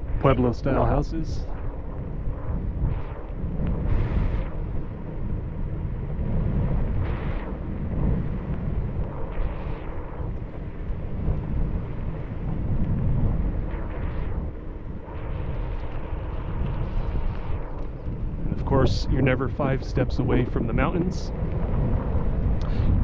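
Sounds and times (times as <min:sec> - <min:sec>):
faint steady hum: 0:00.0 - 0:23.0
wind buffeting microphone: 0:00.0 - 0:23.0.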